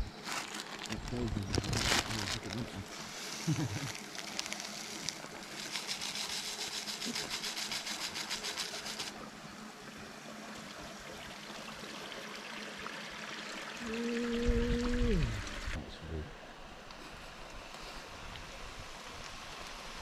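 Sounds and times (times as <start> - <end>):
small river flowing: 2.2 - 20.0.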